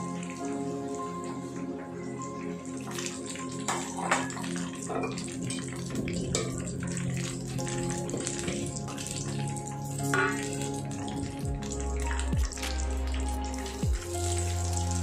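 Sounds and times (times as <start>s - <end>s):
frying in hot oil: 0.0s - 15.0s.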